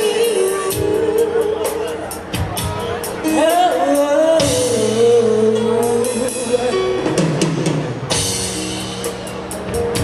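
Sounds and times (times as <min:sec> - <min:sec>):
drum kit snare and cymbals: 0:00.0 - 0:10.0.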